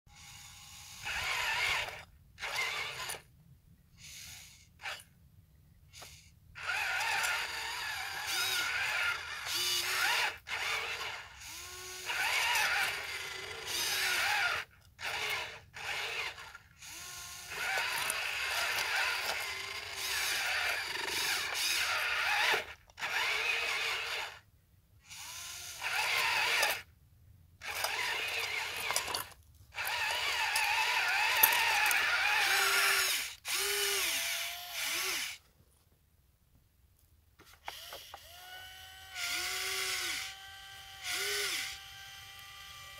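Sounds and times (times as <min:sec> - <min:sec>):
toy electric motors whirring: 0:00.1 - 0:03.3, 0:04.0 - 0:05.1, 0:05.9 - 0:26.9, 0:27.6 - 0:35.5, 0:37.4 - 0:42.9.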